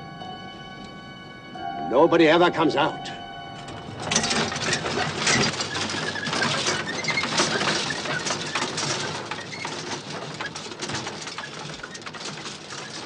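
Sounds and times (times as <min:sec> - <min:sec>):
handcart rattling over cobblestones: 0:01.9 - 0:13.0.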